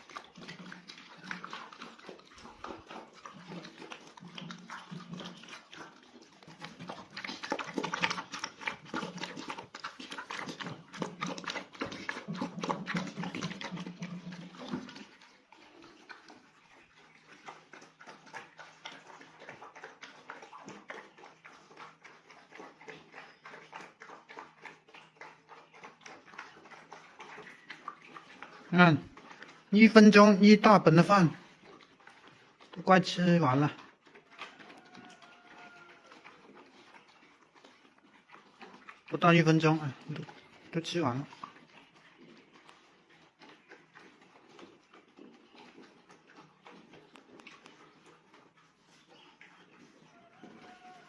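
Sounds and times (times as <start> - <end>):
dog chewing and lapping: 0.0 - 51.0.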